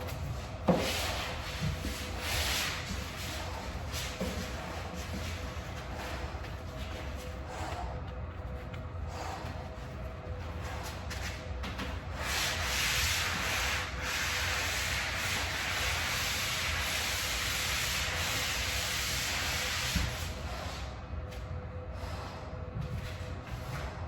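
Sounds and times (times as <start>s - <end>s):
drywall being sanded: 0.0s - 8.0s, 9.1s - 20.9s.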